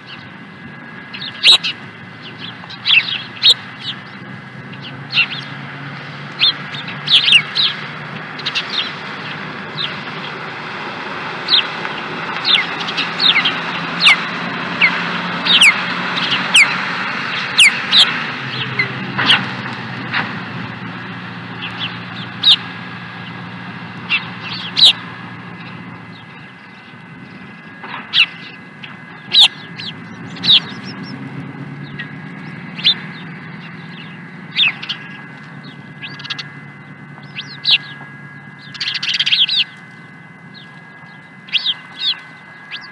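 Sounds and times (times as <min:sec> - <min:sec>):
osprey chirping calls: 0:00.0 - 0:10.5, 0:11.4 - 0:19.6, 0:21.0 - 0:42.9
steady background noise: 0:00.0 - 0:42.9.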